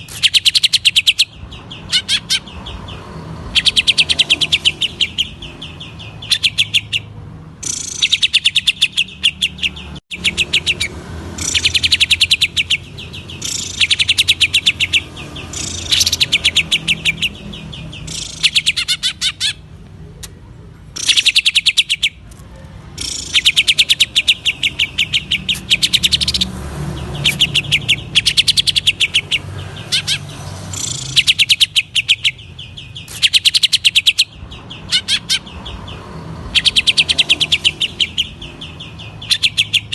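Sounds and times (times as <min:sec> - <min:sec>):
bird singing rapid trilled notes: 0:00.0 - 0:19.8, 0:21.0 - 0:39.9.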